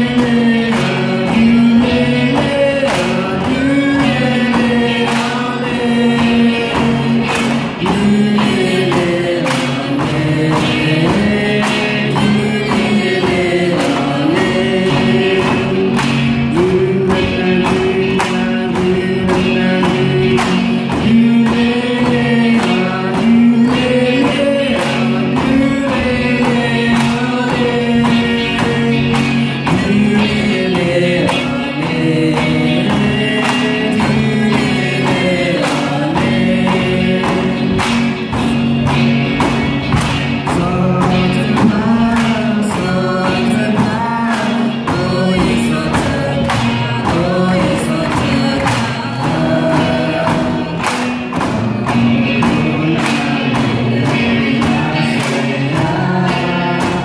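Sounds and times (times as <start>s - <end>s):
group singing: 0.0s - 57.0s.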